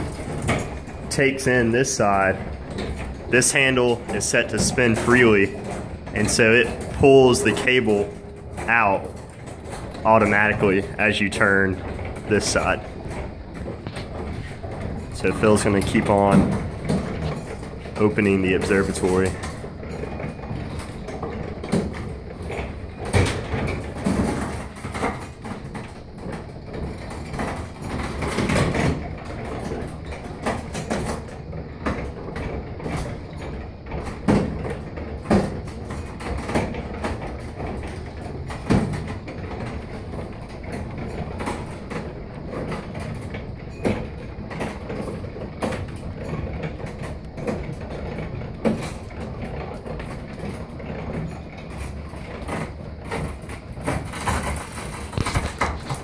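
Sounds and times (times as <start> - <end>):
crank clicks and knocks: 0.0 - 56.0
roof rolling rumble: 0.0 - 56.0.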